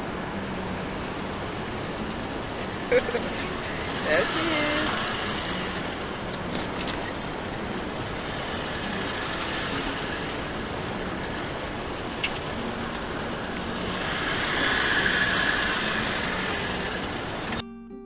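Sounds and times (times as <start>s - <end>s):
car engine running: 0.0s - 17.6s.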